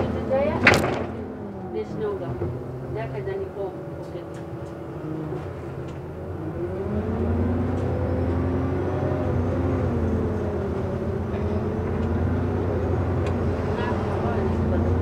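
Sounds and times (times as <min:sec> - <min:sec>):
bus engine accelerating: 0:00.0 - 0:15.0.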